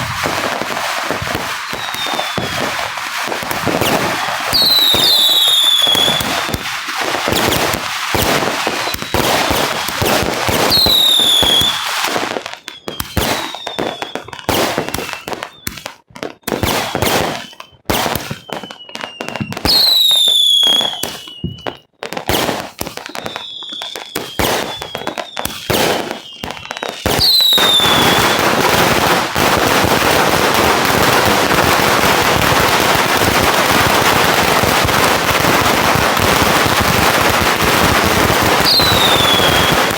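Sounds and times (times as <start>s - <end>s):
falling firework whistle: 0.0s - 39.9s
fireworks bangs and crackles: 0.0s - 39.9s.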